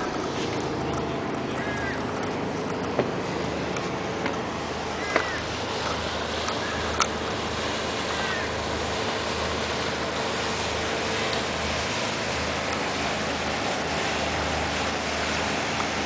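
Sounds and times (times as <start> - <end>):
boat engine running: 0.0 - 16.0
water washing along hull: 0.0 - 16.0.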